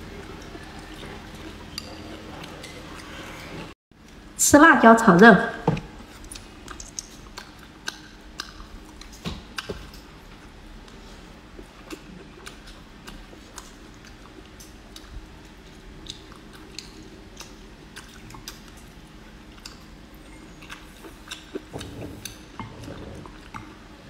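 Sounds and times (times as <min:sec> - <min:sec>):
person chewing: 0:00.0 - 0:04.2, 0:06.0 - 0:23.9.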